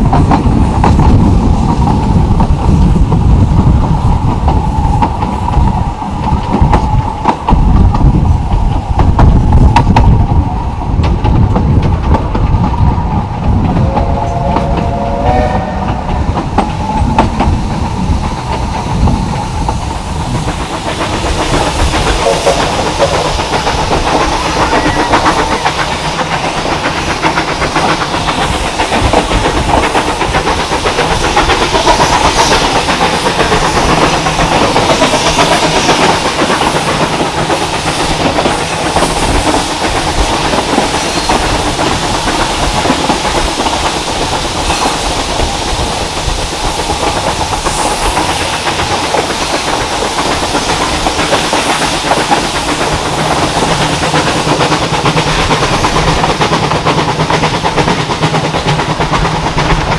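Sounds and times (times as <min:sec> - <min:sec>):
steam hiss: 0:00.0 - 0:59.9
train wheels clattering over rails: 0:00.0 - 0:59.9.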